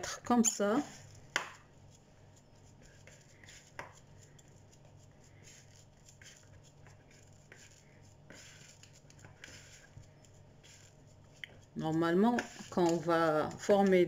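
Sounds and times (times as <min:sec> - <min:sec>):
low steady hum: 0:00.0 - 0:14.0
spatula scraping dough in bowl: 0:00.3 - 0:14.0.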